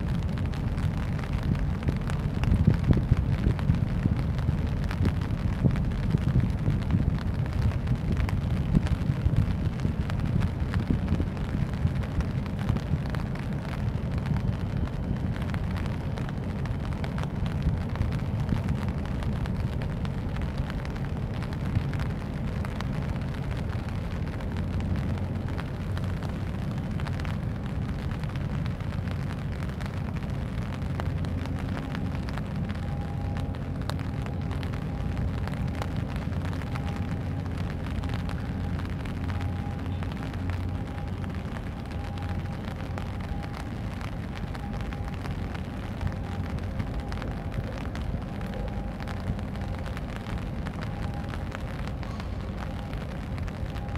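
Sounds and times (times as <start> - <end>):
faint steady hum: 0.0 - 53.9
rain and wind on microphone: 0.0 - 53.9
raindrop ticks: 0.0 - 53.9.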